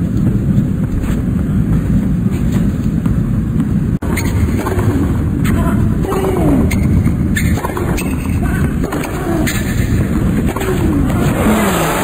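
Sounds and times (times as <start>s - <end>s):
low stadium ambience rumble: 0.0s - 12.0s.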